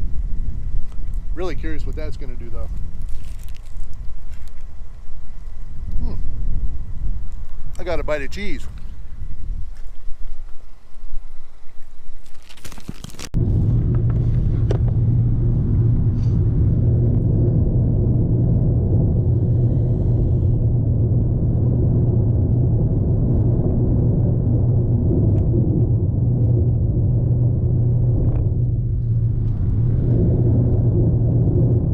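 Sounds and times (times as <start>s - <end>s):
road noise: 0.0s - 31.9s
vehicle engine drone: 0.0s - 31.9s.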